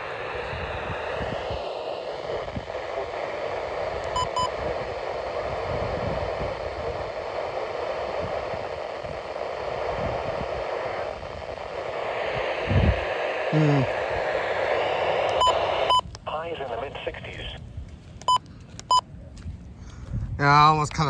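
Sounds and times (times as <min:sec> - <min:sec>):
radio static hiss: 0:00.0 - 0:18.4.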